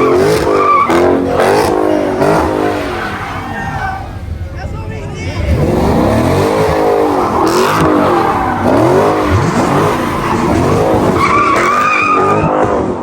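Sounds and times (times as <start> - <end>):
car engine revving hard: 0.0 - 4.1, 5.4 - 13.0
tyres squealing: 0.0 - 12.6.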